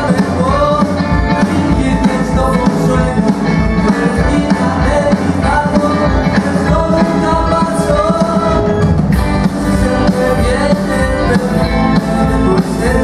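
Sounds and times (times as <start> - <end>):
drums: 0.0 - 13.0
electric guitars: 0.0 - 13.0
person singing: 0.0 - 13.0
upright double bass: 0.0 - 13.0.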